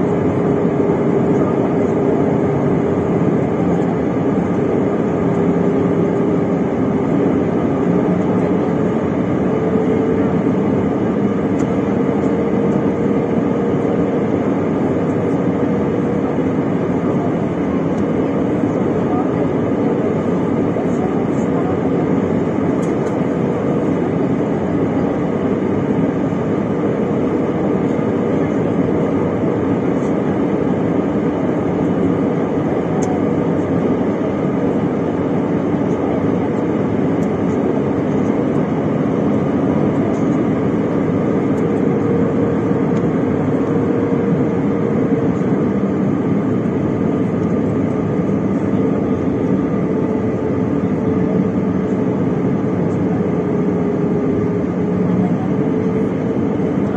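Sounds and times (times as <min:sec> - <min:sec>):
airliner cabin engine rumble: 0:00.0 - 0:56.9.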